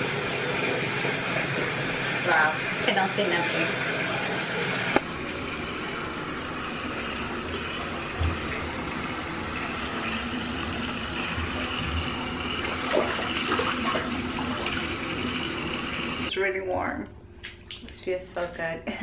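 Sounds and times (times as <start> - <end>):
water running into a bathtub: 0.0 - 16.3.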